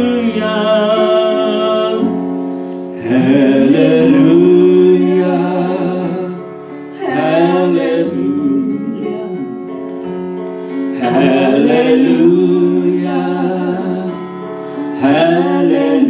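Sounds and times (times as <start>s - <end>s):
man and woman singing gospel song: 0.0s - 2.2s, 3.0s - 9.8s, 10.8s - 16.0s
instrumental accompaniment: 0.0s - 16.0s.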